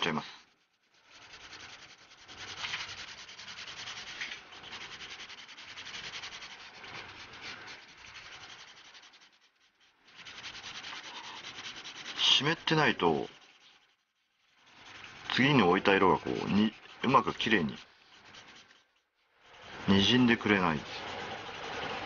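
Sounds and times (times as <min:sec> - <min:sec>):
paintbrush scrubbing on paper: 0:00.0 - 0:22.0.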